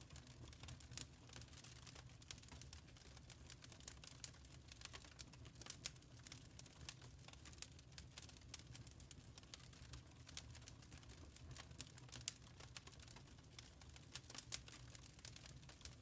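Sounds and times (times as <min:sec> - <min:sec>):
faint wood fire crackling: 0:00.0 - 0:16.0.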